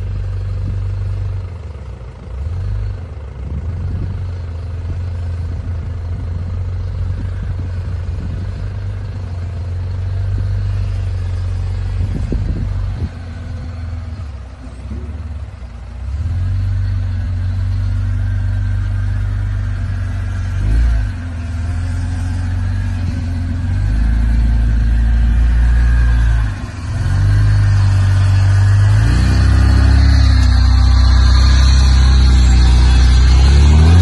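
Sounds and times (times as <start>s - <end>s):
engine working under load: 0.0s - 34.0s.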